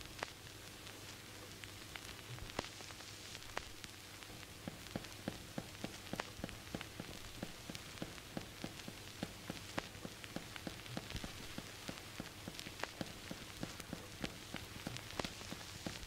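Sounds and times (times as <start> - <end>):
vinyl record crackle and pops: 0.0 - 16.0
surface hiss: 2.3 - 16.0.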